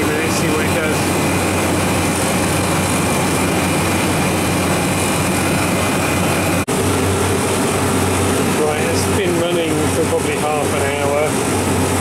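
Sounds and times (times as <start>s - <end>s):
compressor humming: 0.0s - 12.0s
condenser fan air rush: 0.0s - 12.0s.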